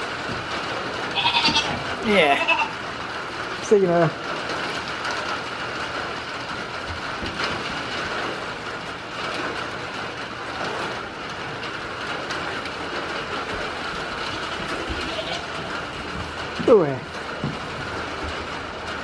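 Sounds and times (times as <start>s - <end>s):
rain on a shed roof: 0.0s - 19.0s.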